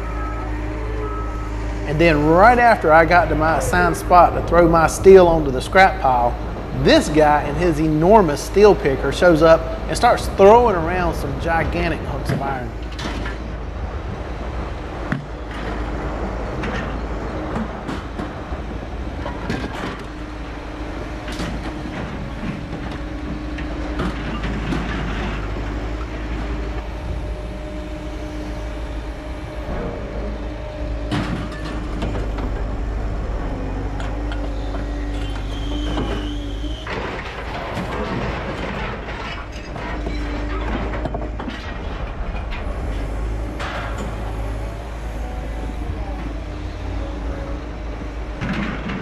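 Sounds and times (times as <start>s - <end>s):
machinery humming: 0.0s - 49.0s
scrap metal clanking and crashing: 1.5s - 49.0s.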